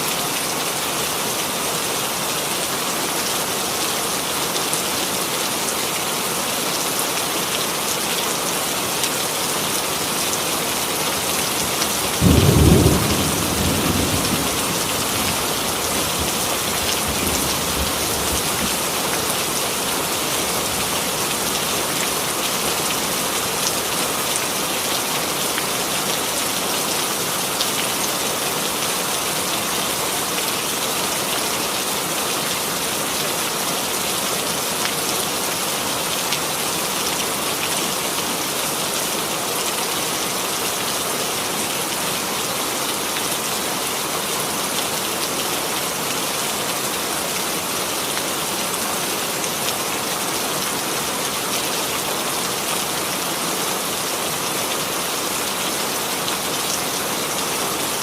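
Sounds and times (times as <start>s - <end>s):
rain pattering on a surface: 0.1s - 58.0s.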